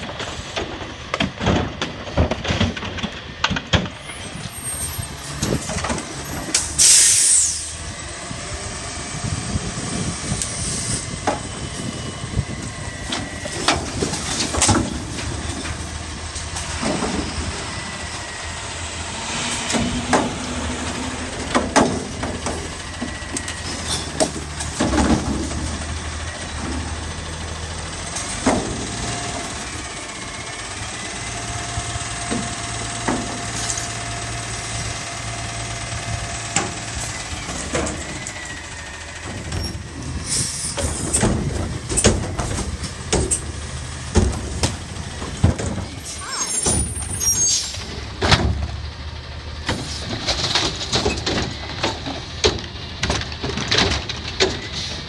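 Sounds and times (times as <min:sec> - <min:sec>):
truck engine running: 0:00.0 - 0:55.0
hydraulic whine: 0:04.0 - 0:48.8.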